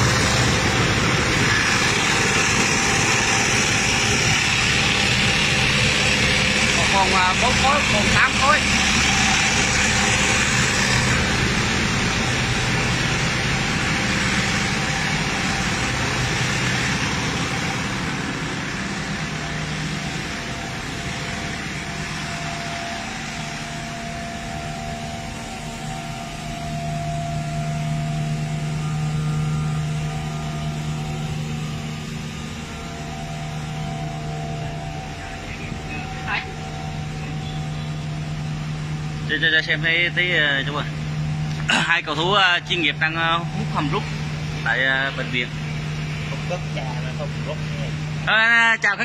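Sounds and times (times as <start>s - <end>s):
truck engine and vacuum pump: 0.0s - 49.0s.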